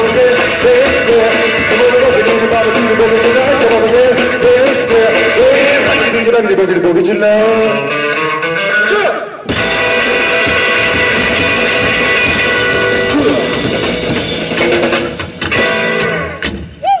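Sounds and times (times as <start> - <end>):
drum kit: 0.0 - 6.4, 9.4 - 17.0
electric guitar: 0.0 - 16.7.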